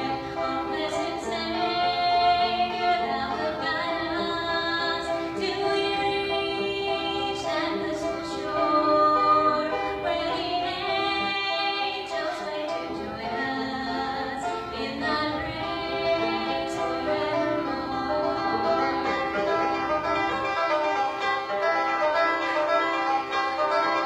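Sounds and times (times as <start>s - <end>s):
woman singing: 0.0s - 20.6s
plucked-string accompaniment: 0.0s - 24.0s.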